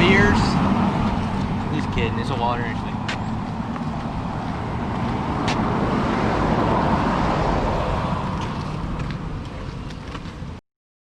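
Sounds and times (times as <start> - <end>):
car passing by: 0.0 - 9.9.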